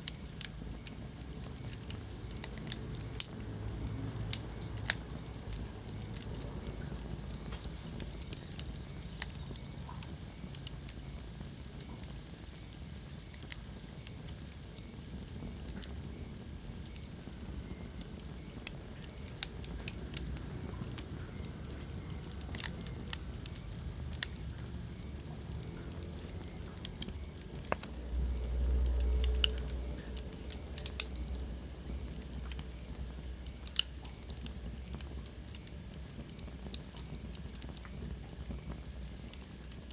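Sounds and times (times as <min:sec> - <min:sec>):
fire crackling and popping: 0:00.0 - 0:39.9
rumble of fire flames: 0:00.0 - 0:39.9.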